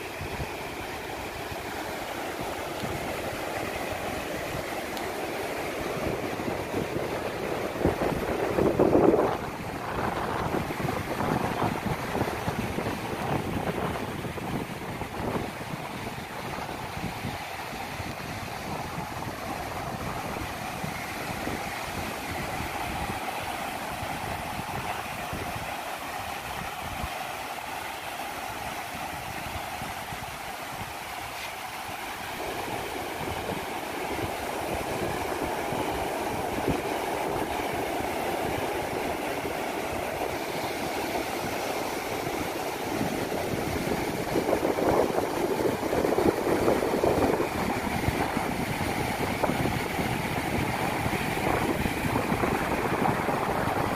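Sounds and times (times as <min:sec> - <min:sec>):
sea surf breaking on shore: 0:00.0 - 0:53.9.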